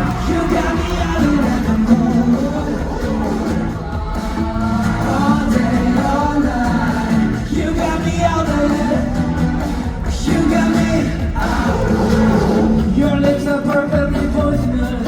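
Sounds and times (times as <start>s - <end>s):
amplified pop backing track: 0.0s - 15.0s
man singing lead vocal: 0.0s - 15.0s.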